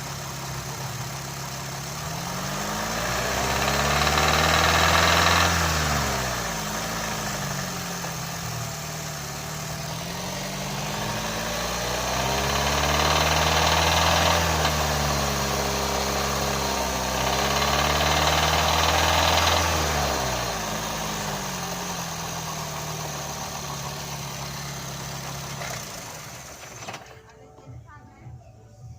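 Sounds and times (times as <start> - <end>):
car engine revving: 0.0 - 27.2.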